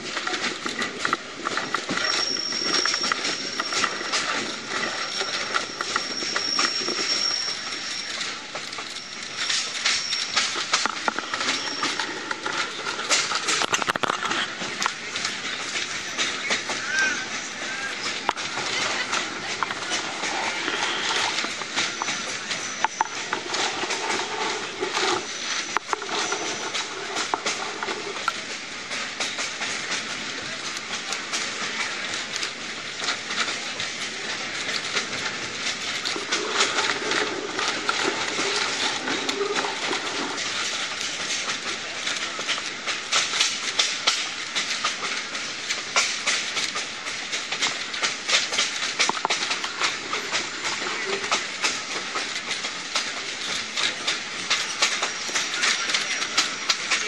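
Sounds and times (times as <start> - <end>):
train car rattling clatter: 0.0 - 57.0
wheels clicking on rails: 0.0 - 57.0.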